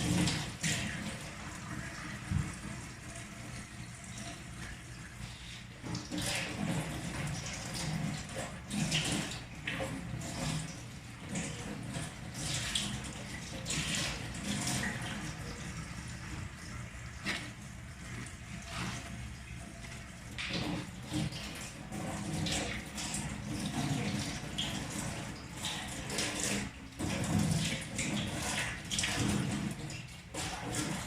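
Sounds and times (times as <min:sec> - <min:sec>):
splashing of rinsed vegetables: 0:00.0 - 0:31.0
tap water running into sink: 0:00.0 - 0:31.0.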